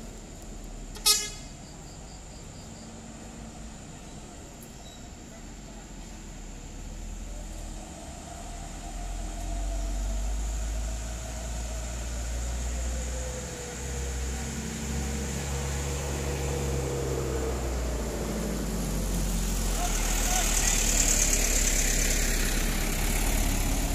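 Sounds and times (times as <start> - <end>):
engine whine: 0.0 - 23.9
truck diesel engine rumble: 0.0 - 23.9.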